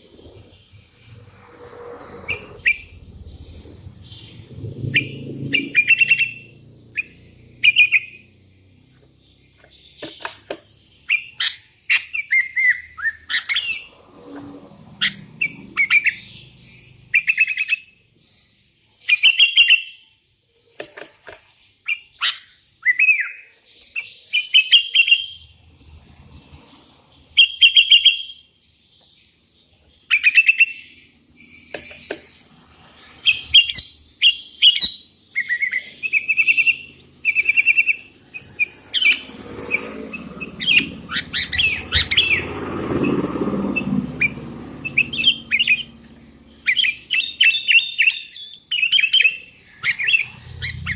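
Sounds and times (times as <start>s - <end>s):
bird chirping song: 0.0s - 50.9s.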